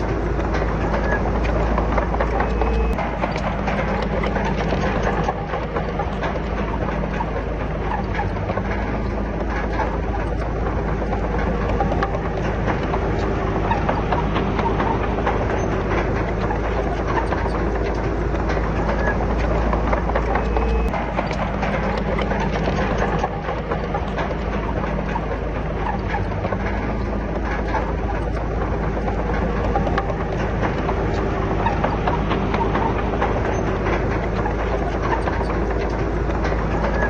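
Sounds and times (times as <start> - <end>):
bulldozer diesel engine: 0.0 - 37.0
steel tracks clanking: 0.0 - 37.0.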